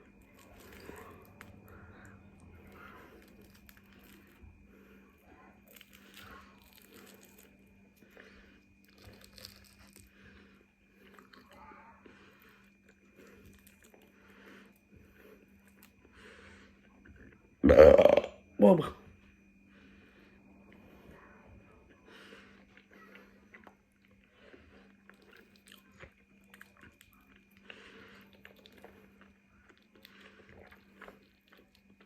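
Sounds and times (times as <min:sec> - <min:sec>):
chewing and crunching food: 0:00.0 - 0:18.3, 0:19.6 - 0:32.0
faint steady hum: 0:00.0 - 0:32.0.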